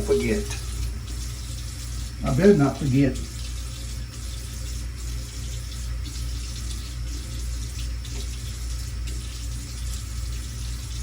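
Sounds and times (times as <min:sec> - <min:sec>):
tap running into a sink: 0:00.0 - 0:11.0.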